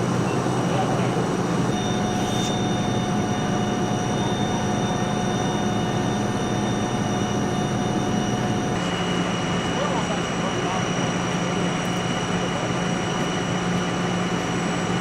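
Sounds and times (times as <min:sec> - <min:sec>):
heavy engine droning: 0:00.0 - 0:15.0
thin steady whine: 0:00.0 - 0:15.0.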